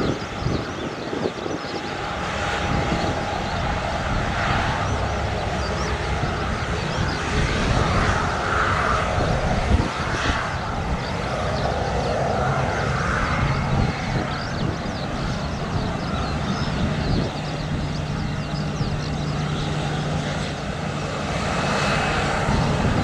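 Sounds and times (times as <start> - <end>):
jet engines roaring: 0.0 - 23.0
wind buffeting microphone: 0.0 - 23.0.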